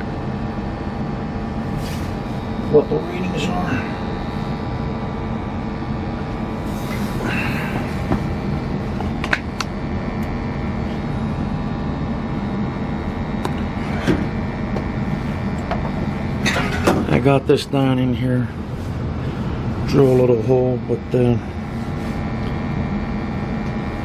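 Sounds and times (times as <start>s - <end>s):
gas burner hum and rush: 0.0s - 24.0s.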